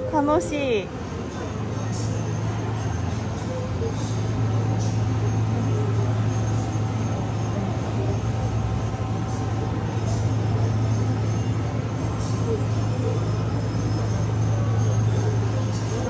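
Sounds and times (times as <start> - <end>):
shop machinery humming: 0.0 - 16.0.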